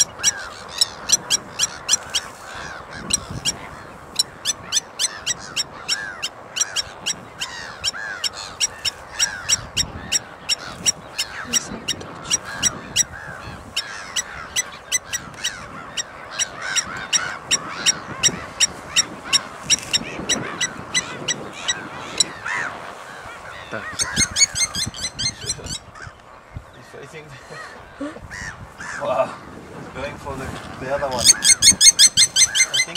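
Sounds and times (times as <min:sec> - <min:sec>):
lapwings metallic tink calls: 0:00.0 - 0:29.0, 0:31.0 - 0:32.9
lower honking bird calls: 0:00.0 - 0:29.5, 0:30.9 - 0:32.9.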